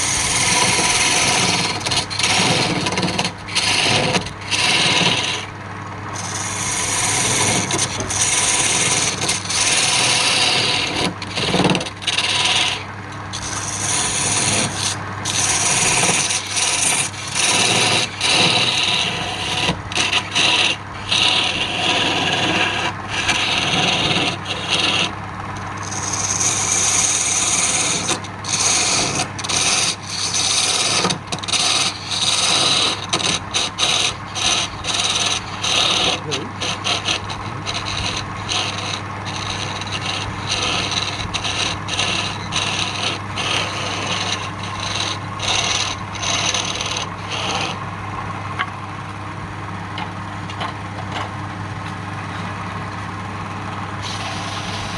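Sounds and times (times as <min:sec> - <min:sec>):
steady low hum: 0:00.0 - 0:54.9
tool scraping spinning wood: 0:00.0 - 0:54.9.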